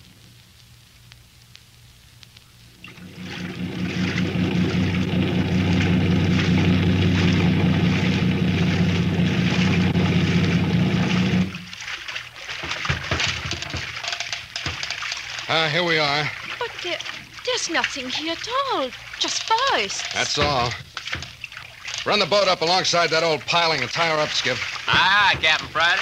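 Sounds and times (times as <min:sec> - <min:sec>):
motorboat engine running: 0:02.8 - 0:26.0
water splashing and sloshing: 0:02.8 - 0:26.0.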